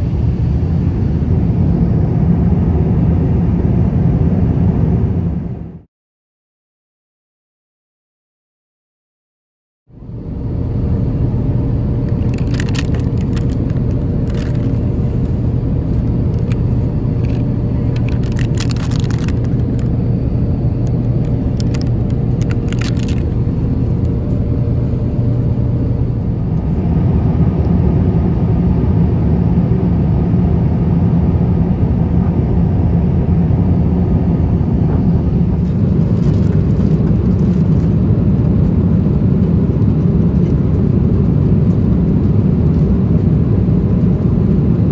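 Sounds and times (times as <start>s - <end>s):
aircraft engines rumbling: 0.0s - 5.9s, 9.9s - 44.9s.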